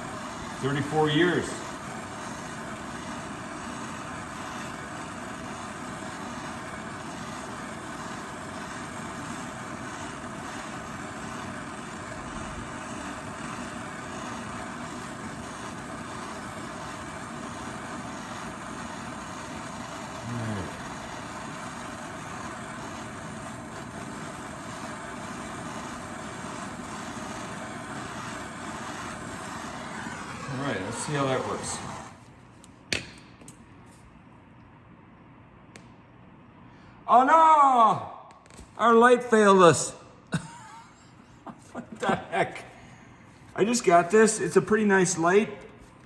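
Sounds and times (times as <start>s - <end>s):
gas torch flame hissing: 0.0s - 34.1s, 37.2s - 46.0s.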